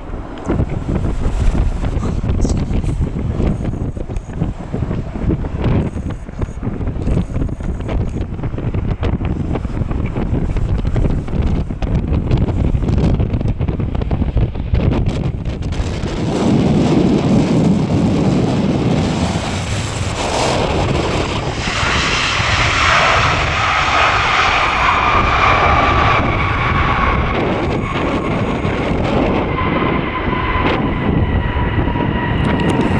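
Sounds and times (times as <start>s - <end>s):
jet engine whine: 0.0s - 32.9s
wind buffeting microphone: 0.0s - 32.9s.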